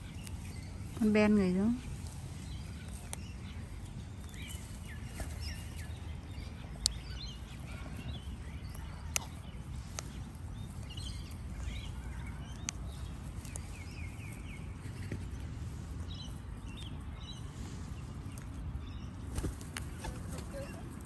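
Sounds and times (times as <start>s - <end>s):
beaks pecking grass: 0.0s - 21.0s.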